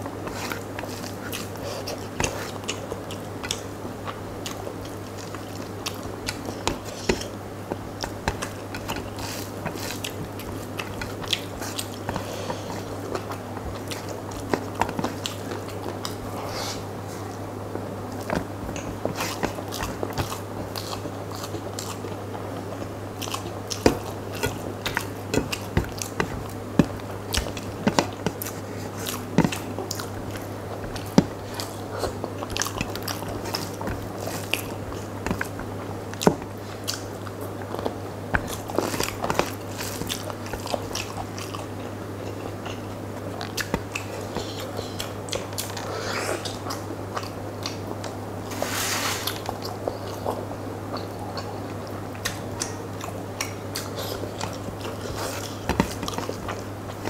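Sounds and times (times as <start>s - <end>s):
chewing and wet mouth sounds: 0.0s - 57.0s
steady low hum: 0.0s - 57.0s.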